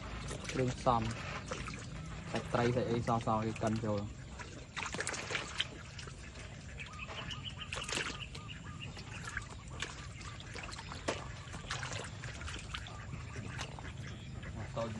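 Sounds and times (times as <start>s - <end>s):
small splashes: 0.0s - 14.9s.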